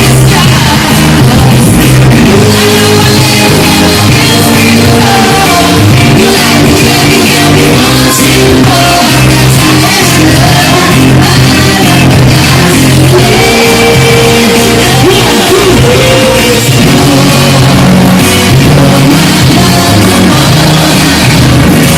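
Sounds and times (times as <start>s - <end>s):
live pop music over loudspeakers: 0.0s - 21.9s
person singing: 0.0s - 21.9s.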